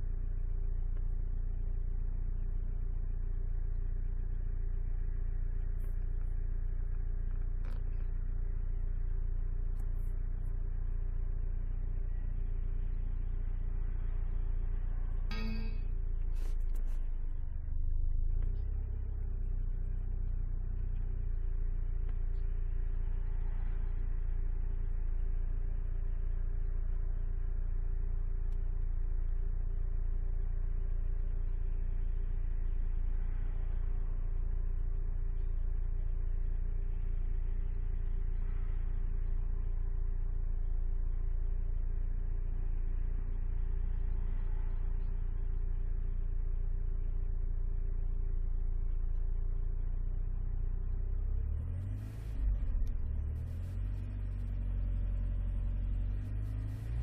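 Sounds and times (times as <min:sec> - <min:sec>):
car engine and road rumble: 0:00.0 - 0:57.0
faint constant tone: 0:00.0 - 0:57.0.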